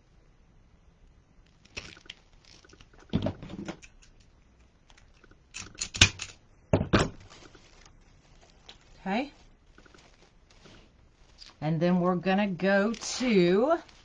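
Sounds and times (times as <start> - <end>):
mesh crinkling and rustling: 1.4 - 14.0.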